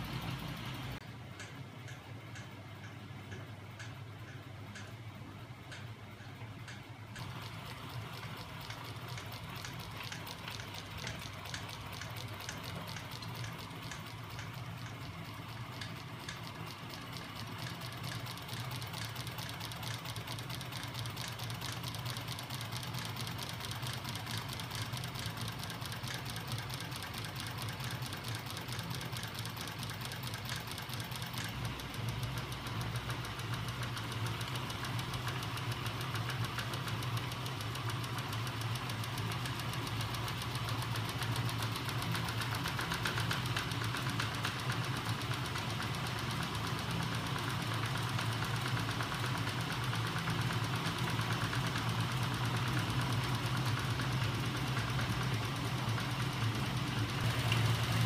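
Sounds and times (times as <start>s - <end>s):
low motor hum: 0.0s - 58.0s
machine clattering clicks: 0.0s - 58.0s.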